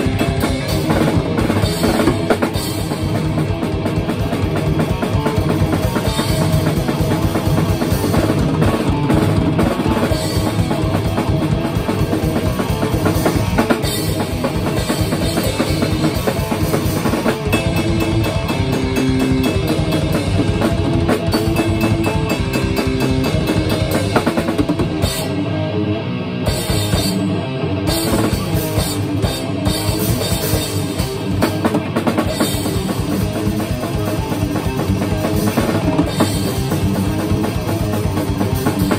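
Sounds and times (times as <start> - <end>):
drum kit beats: 0.0 - 25.7, 26.4 - 38.9
electric guitar riffing: 0.0 - 38.9.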